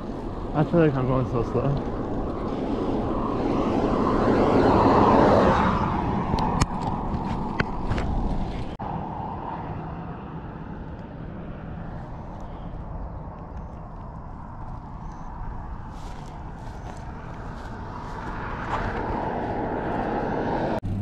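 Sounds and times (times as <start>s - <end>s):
car passing: 0.0s - 21.0s
wind noise on microphone: 0.0s - 21.0s.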